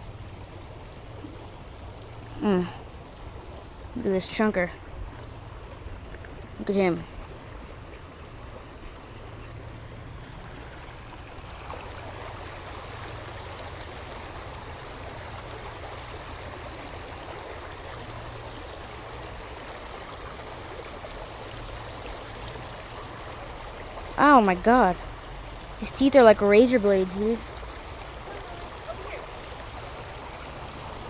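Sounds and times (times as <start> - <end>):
creek water flowing: 0.0 - 31.0.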